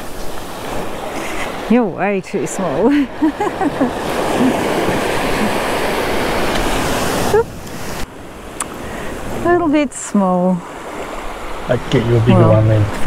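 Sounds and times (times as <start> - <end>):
surf washing over sand: 0.0 - 13.0.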